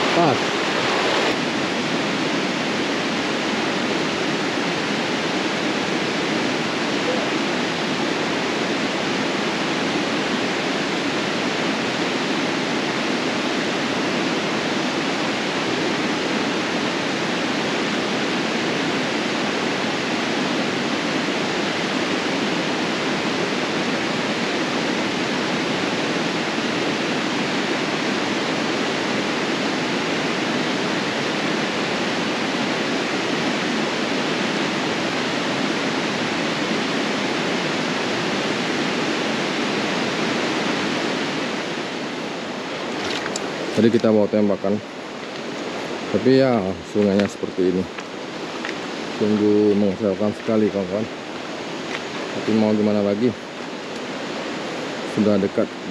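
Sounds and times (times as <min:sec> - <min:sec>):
river rushing: 0:00.0 - 0:55.9.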